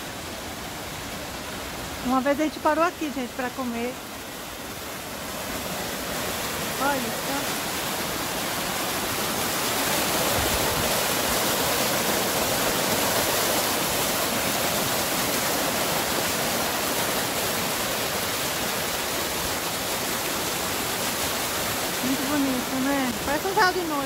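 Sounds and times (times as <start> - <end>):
waterfall splashing: 0.0 - 24.0.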